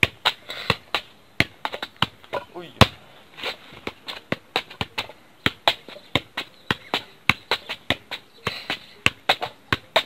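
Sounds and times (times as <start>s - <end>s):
foot kicking football thuds: 0.0s - 10.0s.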